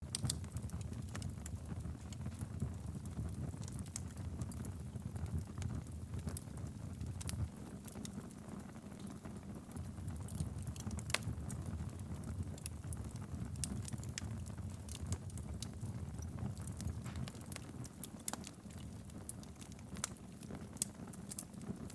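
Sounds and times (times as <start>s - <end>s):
campfire crackling and popping: 0.0s - 21.9s.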